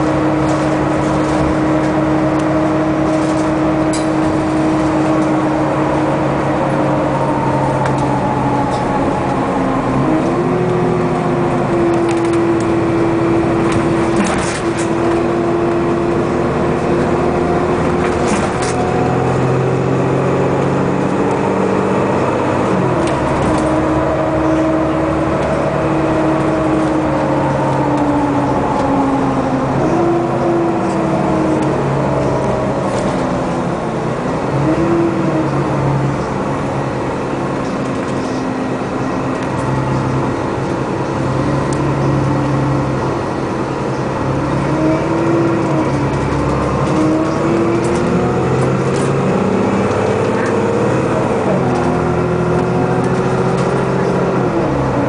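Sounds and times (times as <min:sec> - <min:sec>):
bus engine droning: 0:00.0 - 0:55.0
road noise: 0:00.0 - 0:55.0.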